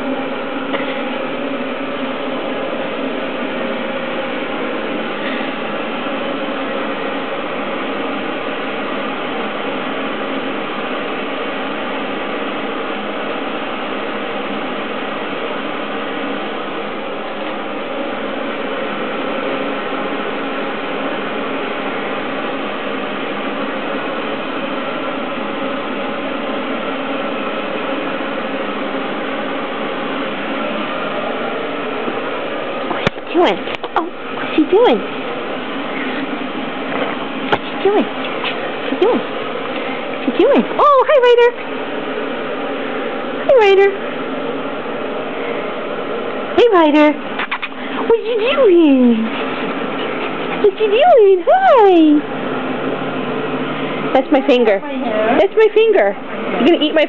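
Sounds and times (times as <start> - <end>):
machine whirring steadily: 0.0 - 57.0.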